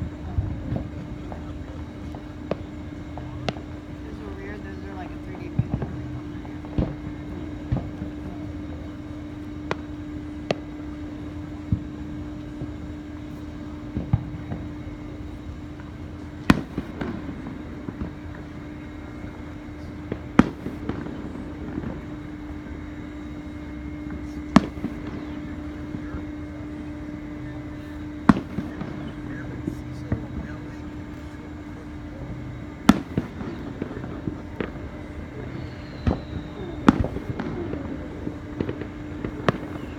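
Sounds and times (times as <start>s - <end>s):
fireworks banging: 0.0s - 39.9s
low hum: 0.0s - 39.9s.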